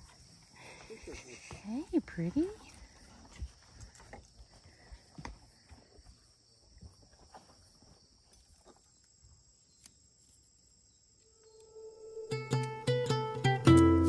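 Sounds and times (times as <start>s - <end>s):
insects chirring: 0.0s - 13.9s.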